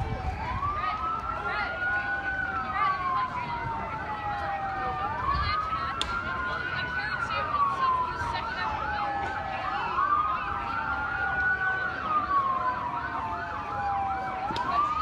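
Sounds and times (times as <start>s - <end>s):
siren fast yelp: 0.0s - 15.0s
siren slow wail: 0.0s - 15.0s.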